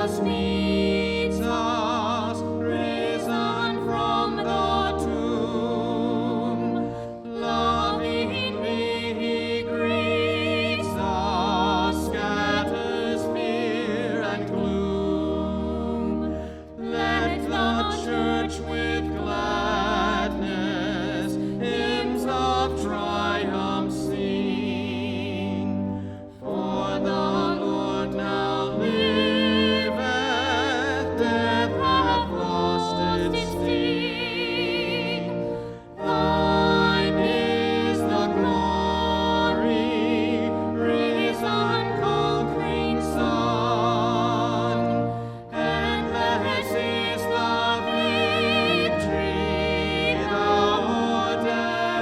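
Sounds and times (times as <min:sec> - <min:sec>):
low held accompaniment: 0:00.0 - 0:52.0
sacred singing with vibrato: 0:00.0 - 0:52.0.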